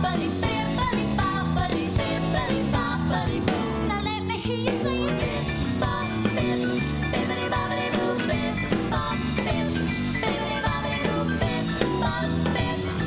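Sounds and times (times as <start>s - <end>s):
upbeat song with singing: 0.0s - 13.0s.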